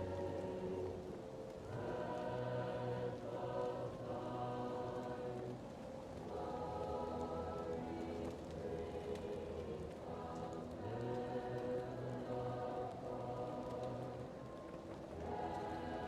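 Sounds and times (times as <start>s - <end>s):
choir singing held chords: 0.0s - 16.0s
fireplace crackling: 0.0s - 16.0s.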